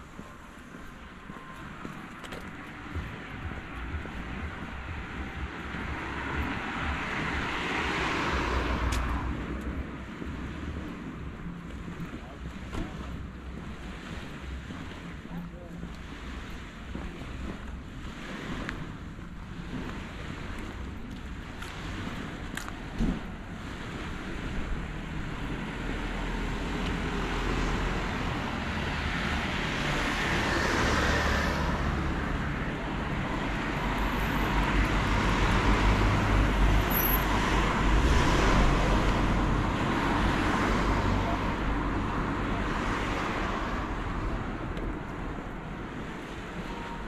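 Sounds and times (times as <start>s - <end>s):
road traffic passing: 0.0s - 47.0s.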